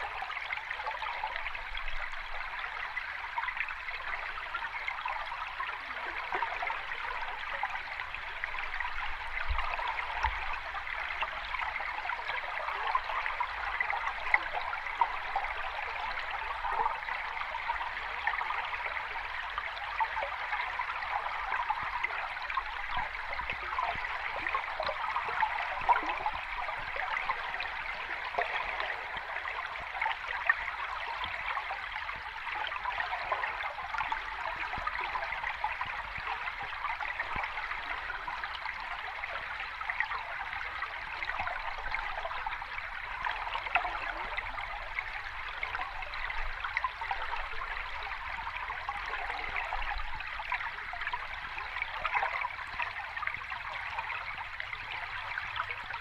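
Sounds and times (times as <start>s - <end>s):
stream trickling and splashing: 0.0s - 56.0s.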